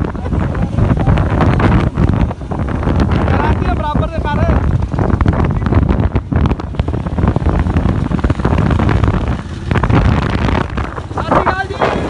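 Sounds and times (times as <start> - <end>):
engine and road noise: 0.0 - 12.0
wind buffeting microphone: 0.0 - 12.0.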